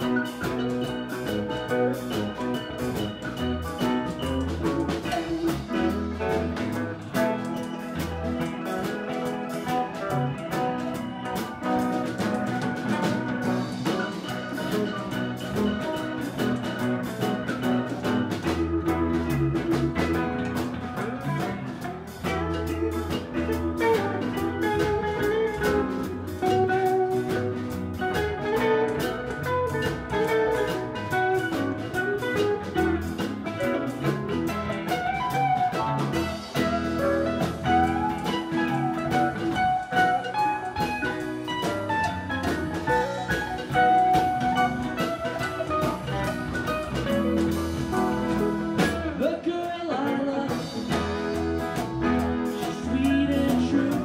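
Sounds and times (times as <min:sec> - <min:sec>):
melodic instrument lines: 0:00.0 - 0:49.4
bass: 0:00.0 - 0:54.0
drum kit beat: 0:00.0 - 0:54.0.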